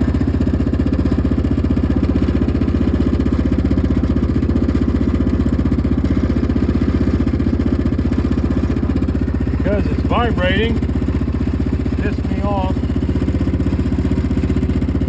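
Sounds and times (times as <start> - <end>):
atv engine idling: 0.0 - 15.0.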